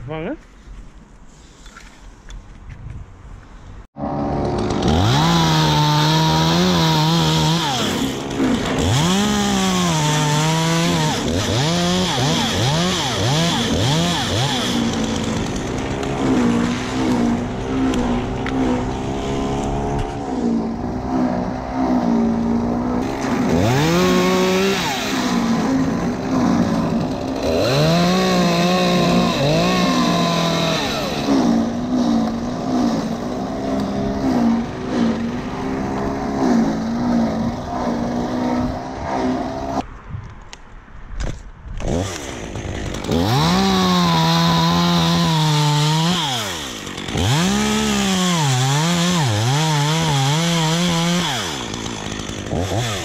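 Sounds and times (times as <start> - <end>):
chainsaw idling and revving: 4.0 - 39.8, 41.8 - 53.0.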